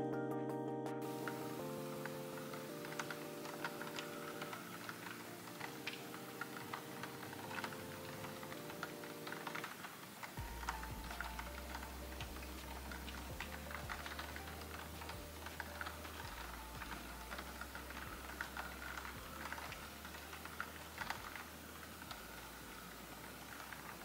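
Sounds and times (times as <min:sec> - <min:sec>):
raindrops tapping on window: 0:01.0 - 0:24.0.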